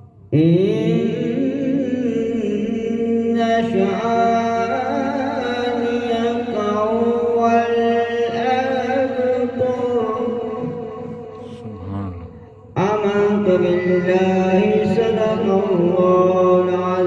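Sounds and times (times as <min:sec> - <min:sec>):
man chanting melodically: 0:00.3 - 0:17.0.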